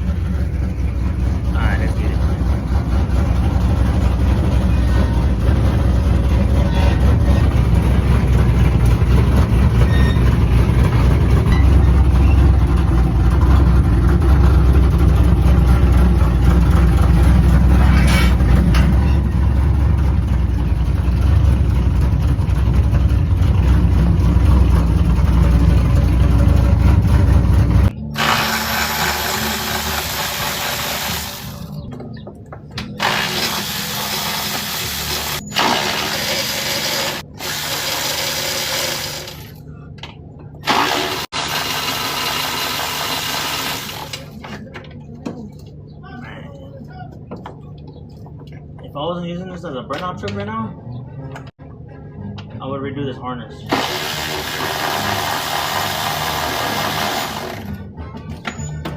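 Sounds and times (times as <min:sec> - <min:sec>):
truck engine idling: 0:00.0 - 0:49.8.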